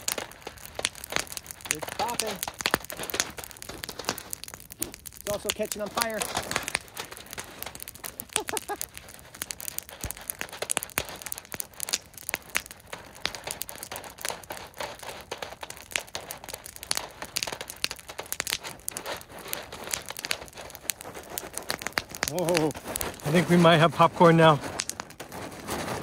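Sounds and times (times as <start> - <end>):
popcorn popping: 0.0 - 23.3, 24.7 - 25.3
campfire crackling: 0.0 - 26.0.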